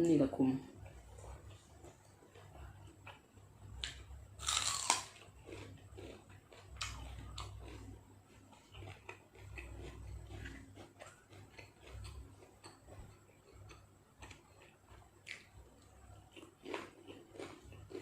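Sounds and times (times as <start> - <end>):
food crunching: 0.7 - 18.0
person chewing food: 0.7 - 18.0.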